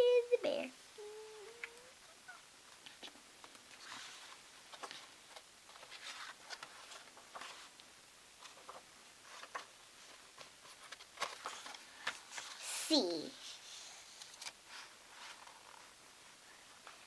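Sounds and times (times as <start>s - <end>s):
book pages rustling: 2.7s - 17.0s.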